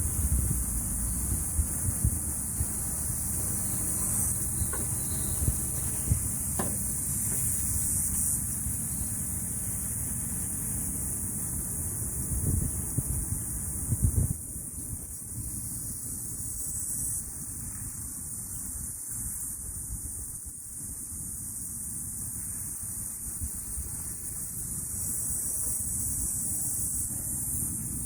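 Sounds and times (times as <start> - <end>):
cicadas buzzing: 0.0 - 28.0
wind rumble on microphone: 0.0 - 28.0.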